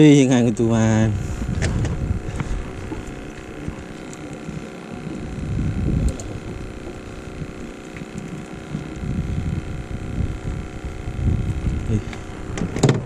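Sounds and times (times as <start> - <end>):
boat engine humming: 0.0 - 13.0
wind gusting over microphone: 0.0 - 13.0.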